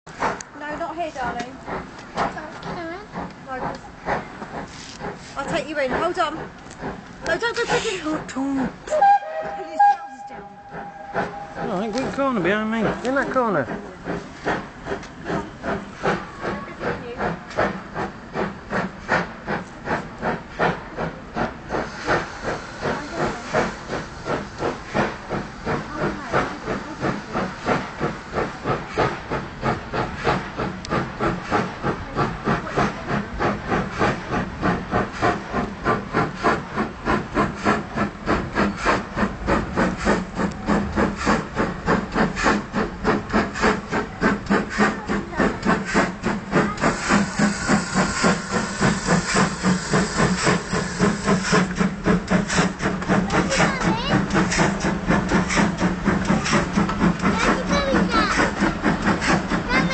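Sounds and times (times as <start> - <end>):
steam locomotive chuffing: 0.1 - 59.9.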